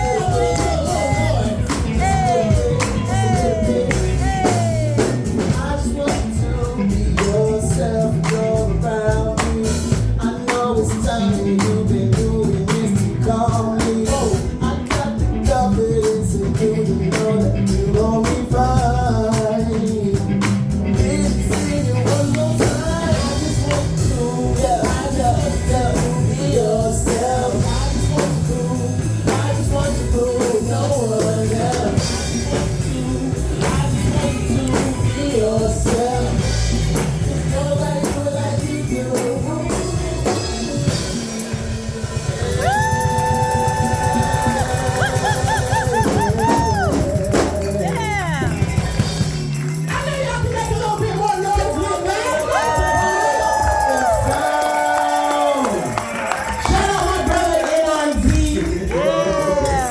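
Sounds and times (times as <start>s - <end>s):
bass guitar: 0.0s - 59.9s
person singing: 0.0s - 59.9s
steady drum beat: 0.0s - 59.9s.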